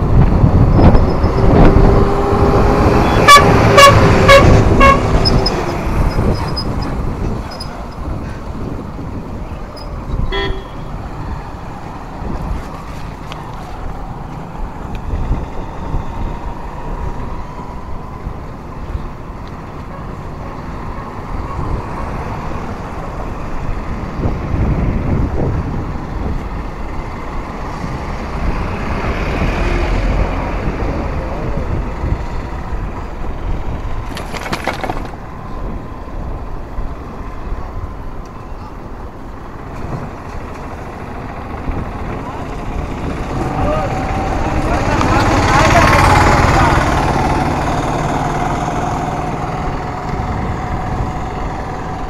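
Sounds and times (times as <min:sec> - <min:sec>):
motor traffic passing: 0:00.0 - 0:52.0
wind and road noise: 0:00.0 - 0:52.0.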